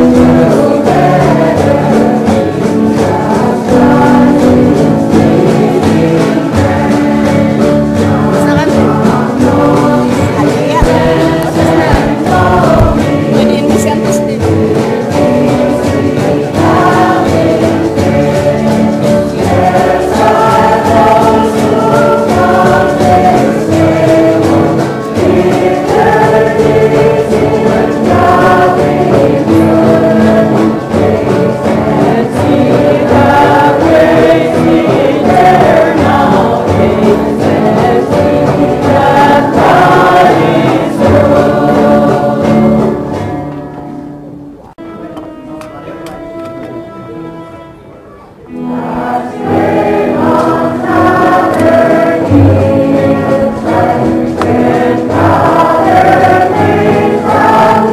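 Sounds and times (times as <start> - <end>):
choir singing a hymn: 0.0 - 44.3, 48.5 - 57.9.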